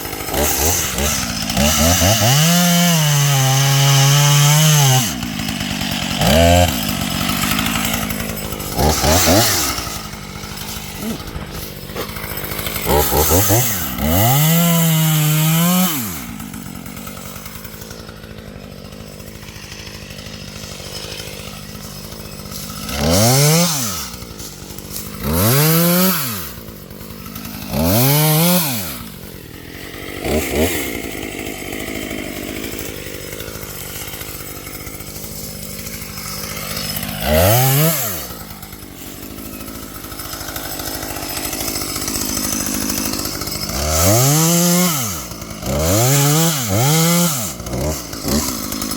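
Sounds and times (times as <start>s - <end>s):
chainsaw idling and revving: 0.0s - 48.9s.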